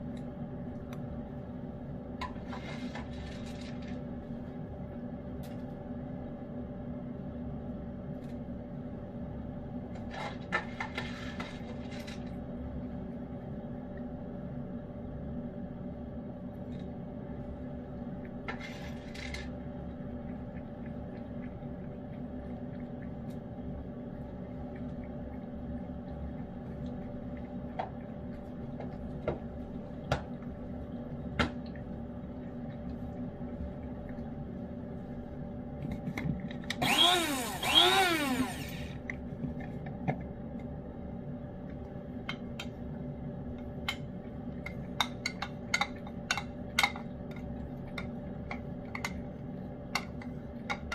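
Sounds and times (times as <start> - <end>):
electrical hum: 0.0 - 50.9.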